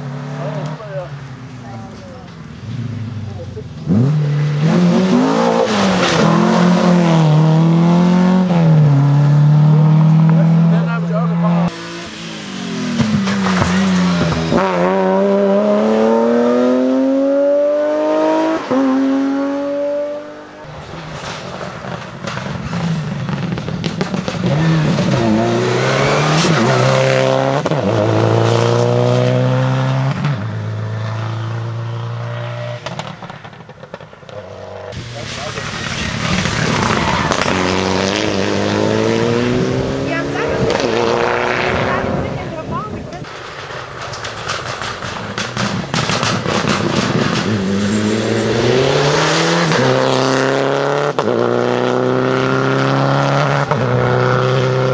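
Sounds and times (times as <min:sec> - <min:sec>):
rally car engine revving: 0:00.0 - 0:54.9.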